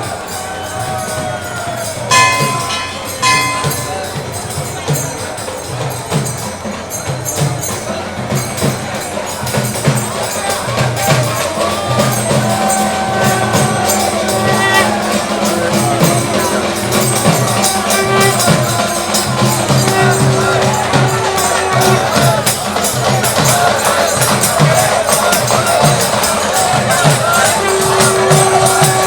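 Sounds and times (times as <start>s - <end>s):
long held notes: 0.0s - 29.0s
steady percussion beat: 0.0s - 29.0s.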